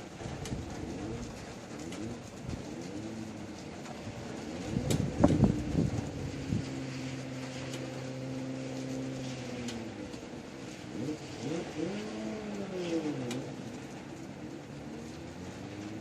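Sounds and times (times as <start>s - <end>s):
rain hissing: 0.0s - 16.0s
vehicle engine humming: 0.0s - 16.0s.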